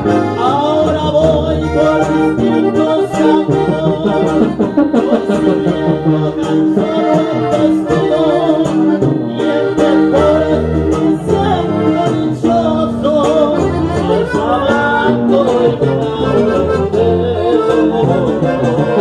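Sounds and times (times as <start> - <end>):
bass line: 0.0 - 19.0
button accordion: 0.0 - 19.0
guitar-type string instrument: 0.0 - 19.0
man singing into a microphone: 0.0 - 19.0.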